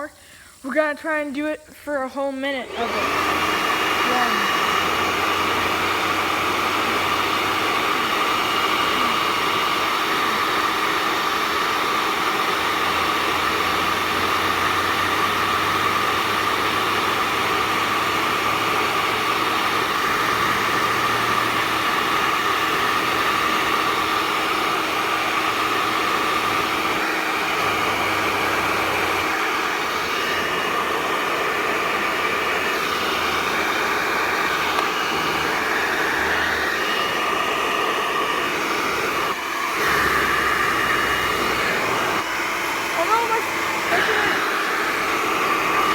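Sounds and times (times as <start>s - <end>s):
hair dryer blowing: 2.2s - 45.9s.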